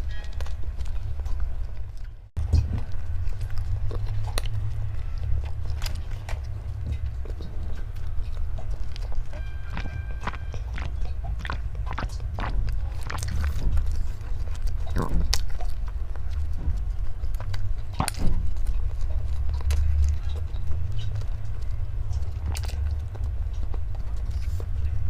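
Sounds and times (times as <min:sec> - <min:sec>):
person chewing and biting: 0:00.0 - 0:25.0
steady low hum: 0:00.0 - 0:25.0.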